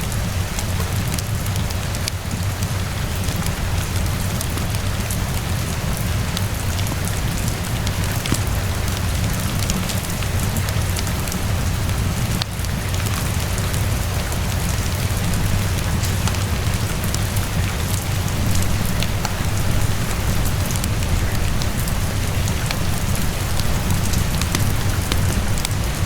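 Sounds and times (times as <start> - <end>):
rainfall hissing: 0.0 - 26.0
wood fire crackling: 0.0 - 26.0.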